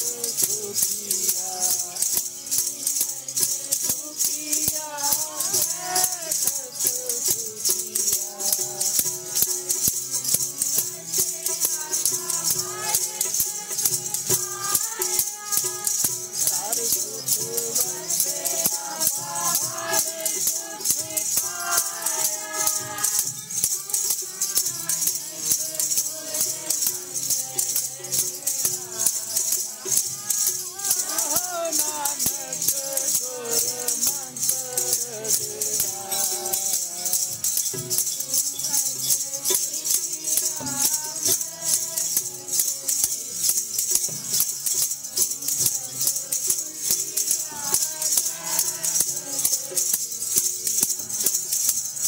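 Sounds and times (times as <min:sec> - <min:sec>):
person singing: 0:00.0 - 0:44.1, 0:45.2 - 0:51.8
hand percussion strikes: 0:00.0 - 0:52.0
high jingling rattle: 0:00.0 - 0:52.0.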